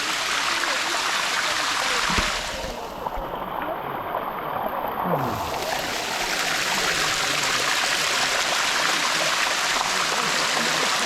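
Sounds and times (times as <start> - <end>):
waterfall rushing over rock: 0.0 - 3.3, 4.1 - 11.0.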